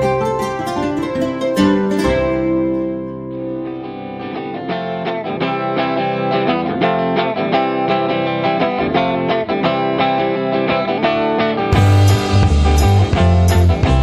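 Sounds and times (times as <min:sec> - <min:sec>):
guitar plucked notes: 0:00.0 - 0:14.0.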